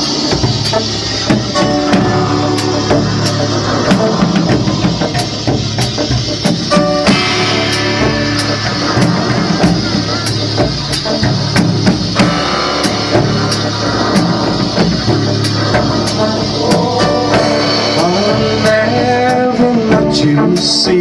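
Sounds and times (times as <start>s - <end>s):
drum kit beat: 0.0s - 21.0s
live rock band playing: 0.0s - 21.0s.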